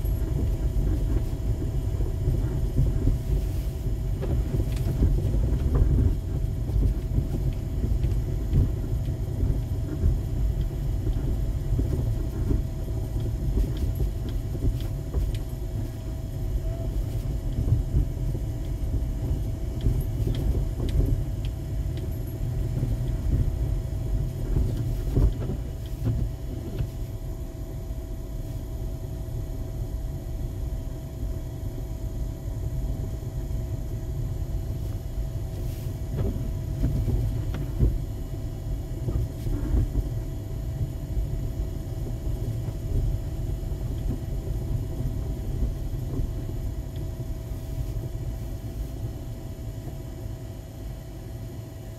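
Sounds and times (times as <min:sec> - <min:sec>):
car cabin road rumble: 0:00.0 - 0:51.9
faint steady whine: 0:00.0 - 0:51.9.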